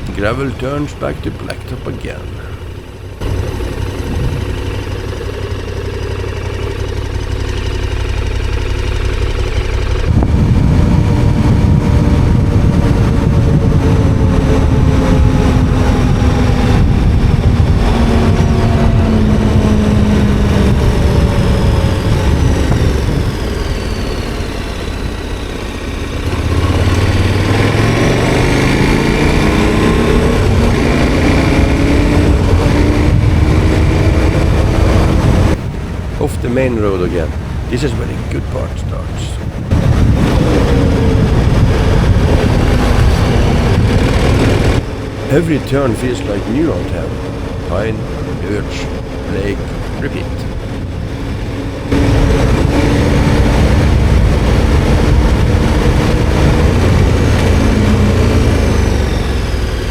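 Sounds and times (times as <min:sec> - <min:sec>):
rush of noise: 0:00.0 - 0:59.9
motorcycle engine under way: 0:02.2 - 0:36.3, 0:39.6 - 0:59.9.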